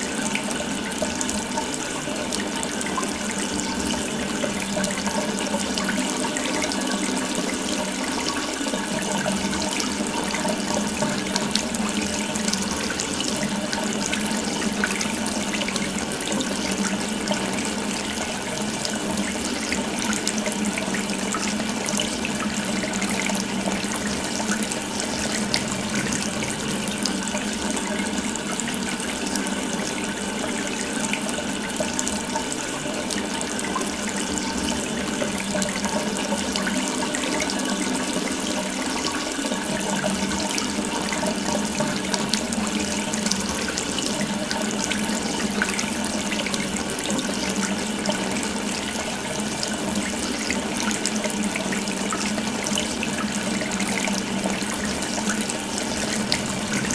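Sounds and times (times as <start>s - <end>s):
faucet water running: 0.0s - 56.9s.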